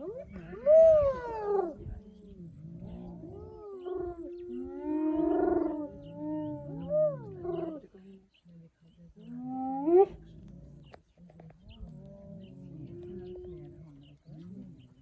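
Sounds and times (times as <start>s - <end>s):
lioness growling: 0.0s - 7.9s, 9.4s - 15.0s.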